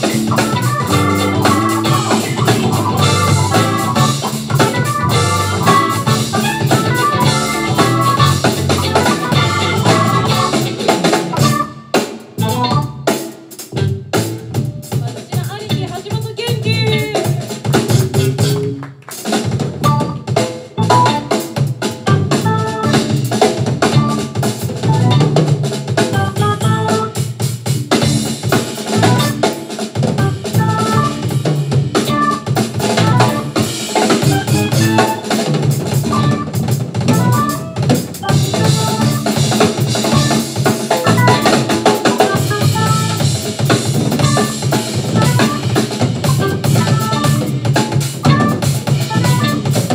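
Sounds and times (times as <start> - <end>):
drum kit: 0.0 - 49.9
funk band playing: 0.0 - 49.9.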